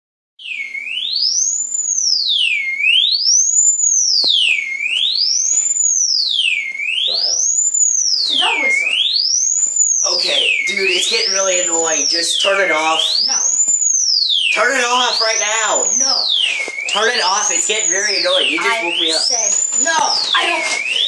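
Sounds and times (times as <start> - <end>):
shrill sliding electronic tone: 0.4 - 21.0.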